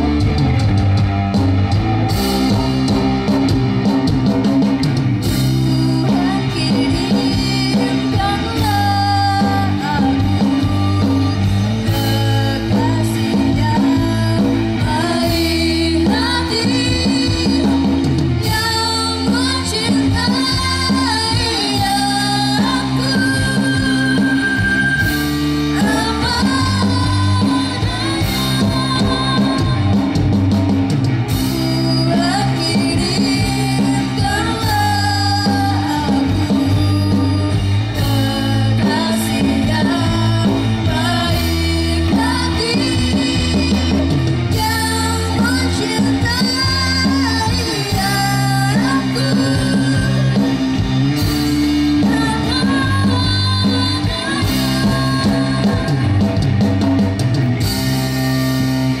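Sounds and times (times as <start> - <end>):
live rock band playing: 0.0 - 59.0
sung vocal melody: 0.0 - 59.0.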